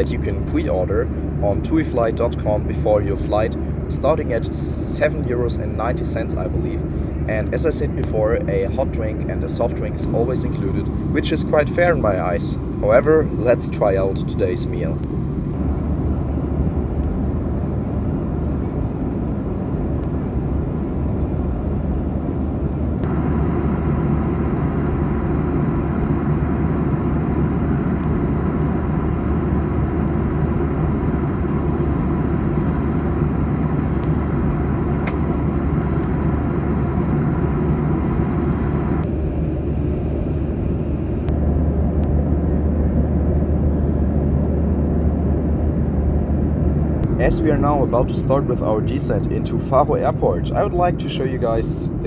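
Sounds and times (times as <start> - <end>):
airplane cabin engine drone: 0.0 - 52.0.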